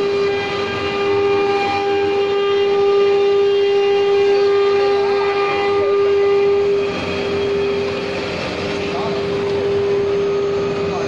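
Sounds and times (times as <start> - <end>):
router spindle motor whine: 0.0 - 11.0.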